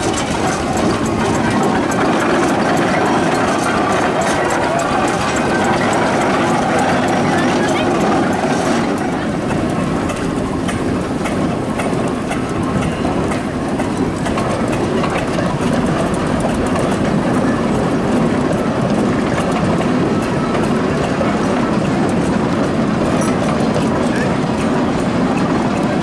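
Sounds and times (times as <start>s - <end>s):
steam roller clattering: 0.0s - 26.0s.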